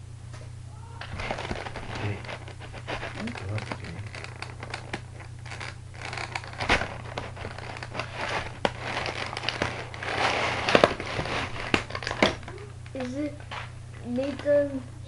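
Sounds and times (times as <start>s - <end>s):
plastic packaging crinkling: 1.1s - 13.2s.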